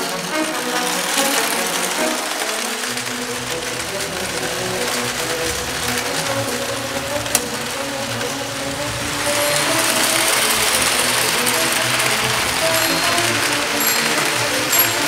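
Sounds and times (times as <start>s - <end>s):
toy train whirring on track: 0.0s - 15.0s.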